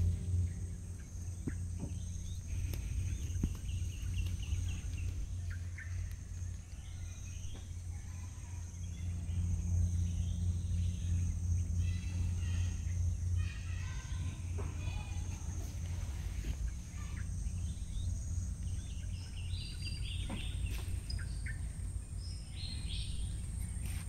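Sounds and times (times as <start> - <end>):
bird chirping: 0.0 - 24.0
high insect drone: 0.0 - 24.0
low steady rumble: 0.0 - 24.0.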